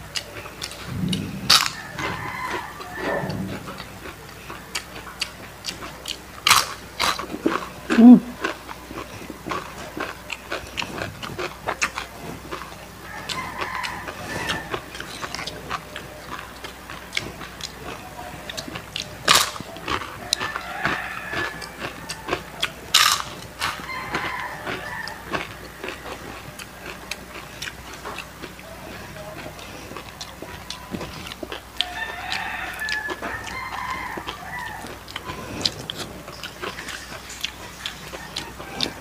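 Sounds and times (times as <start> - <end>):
crunching fried chicken: 0.0 - 39.0.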